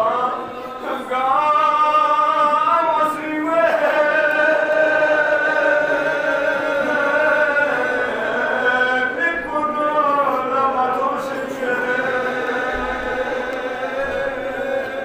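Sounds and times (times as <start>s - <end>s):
man chanting: 0.0s - 14.8s.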